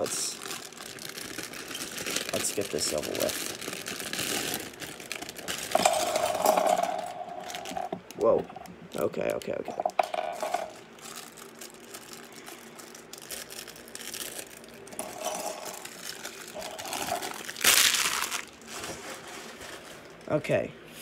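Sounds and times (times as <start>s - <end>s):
plastic bag crinkling: 0.0s - 20.4s.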